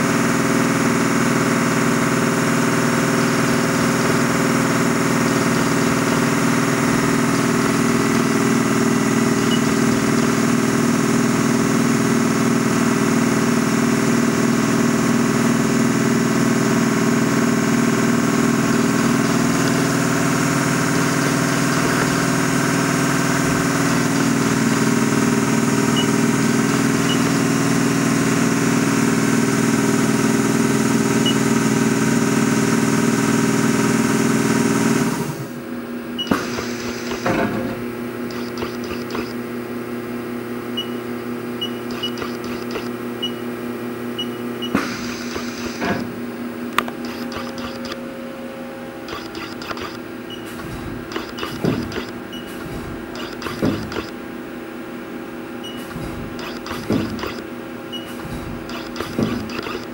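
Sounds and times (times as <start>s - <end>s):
lathe mechanical hum: 0.0s - 59.9s.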